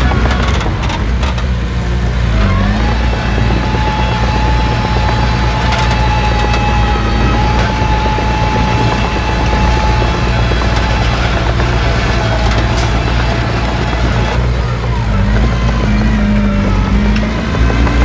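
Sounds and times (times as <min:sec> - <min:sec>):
bulldozer diesel engine: 0:00.0 - 0:18.0
machine whine: 0:00.0 - 0:18.0.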